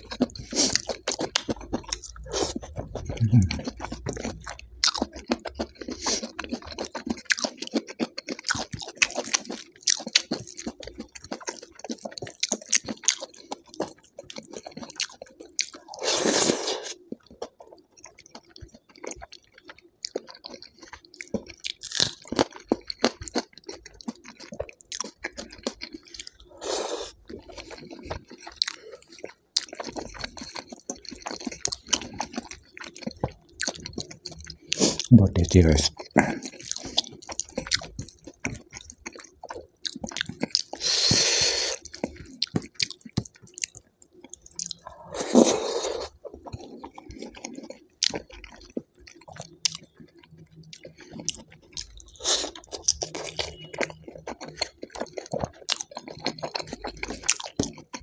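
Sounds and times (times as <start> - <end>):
wet chewing with crunching: 0.0 - 58.0.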